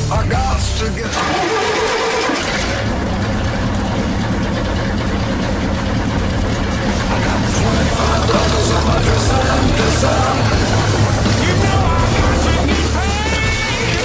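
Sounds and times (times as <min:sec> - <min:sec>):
car engine starting and running: 0:00.0 - 0:14.0.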